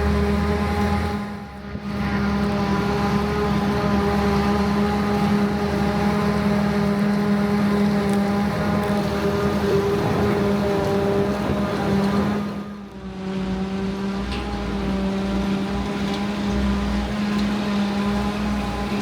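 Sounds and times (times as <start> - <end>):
forage harvester running: 0.0 - 19.0.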